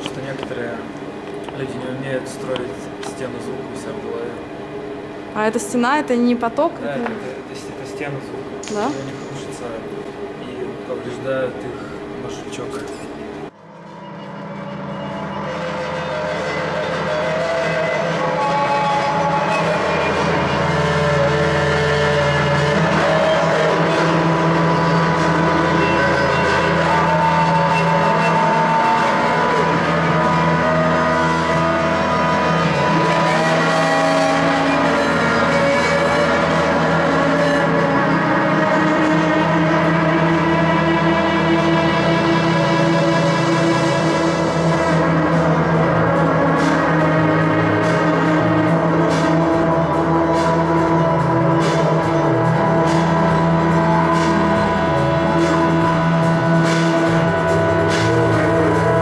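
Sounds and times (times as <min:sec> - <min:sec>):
higher droning tones shifting pitch: 0:00.0 - 0:59.0
low drone: 0:00.0 - 0:59.0.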